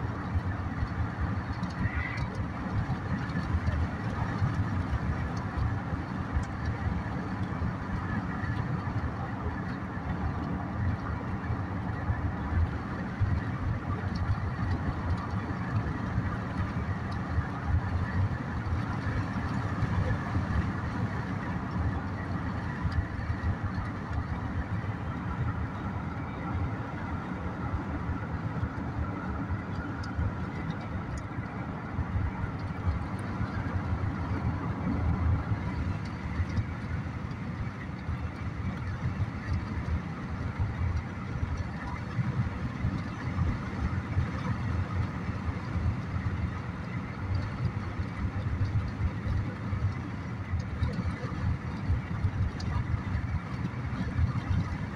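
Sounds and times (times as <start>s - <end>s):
car engine and tyres droning: 0.0s - 54.9s.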